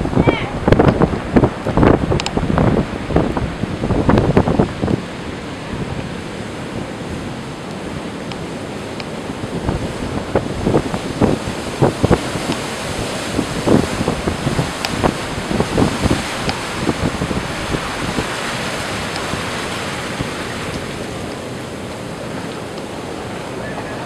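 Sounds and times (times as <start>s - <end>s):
surf breaking around pier pilings: 0.0s - 24.0s
wind buffeting microphone: 0.0s - 24.0s.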